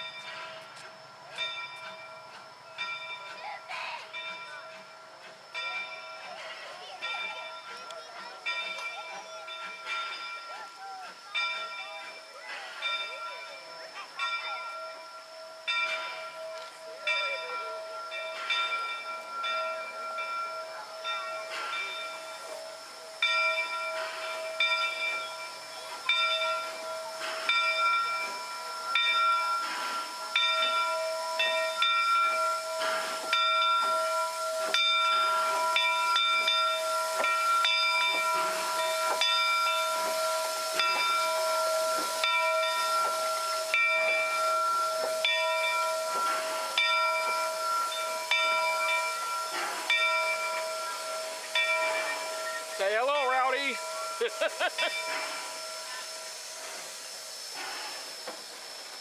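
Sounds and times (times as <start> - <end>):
steam locomotive hissing and chuffing: 0.0 - 59.0.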